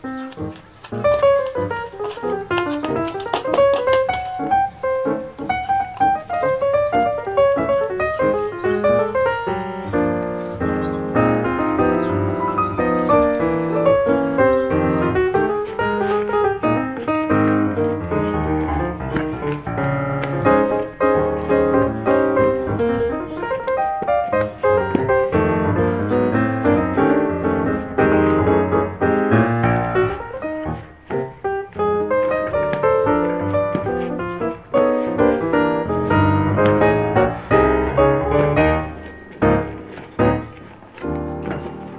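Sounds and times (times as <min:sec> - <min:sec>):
lively piano music: 0:00.0 - 0:41.9.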